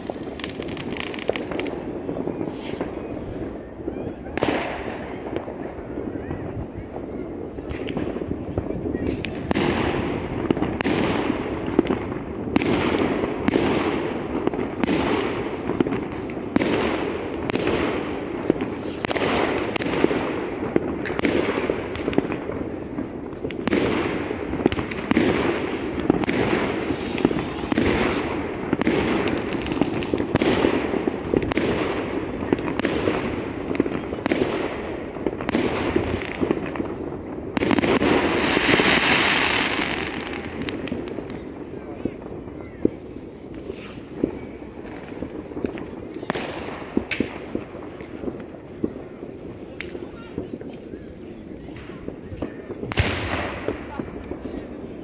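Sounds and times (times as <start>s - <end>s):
fireworks bursting with echo: 0.0s - 55.0s.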